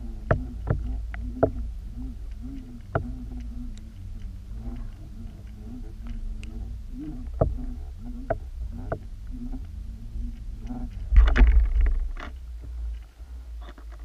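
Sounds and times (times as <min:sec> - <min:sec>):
sharp clicks: 0:00.0 - 0:14.0
underwater low rumble: 0:00.0 - 0:14.0.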